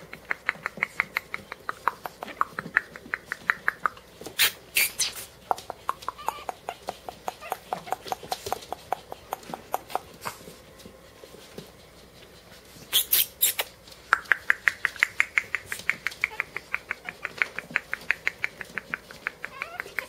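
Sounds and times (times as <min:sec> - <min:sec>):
puppies squeaking: 0:00.0 - 0:10.4, 0:12.3 - 0:20.0.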